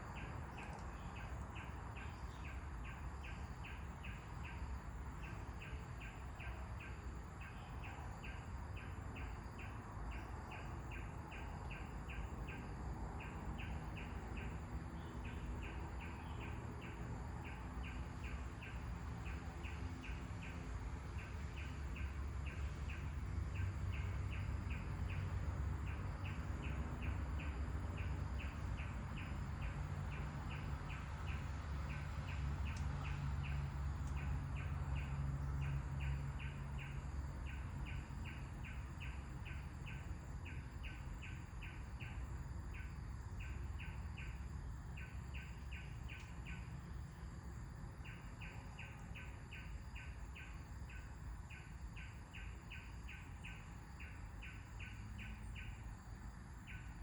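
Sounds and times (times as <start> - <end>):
bird chirping: 0.0 - 47.2, 48.0 - 57.0.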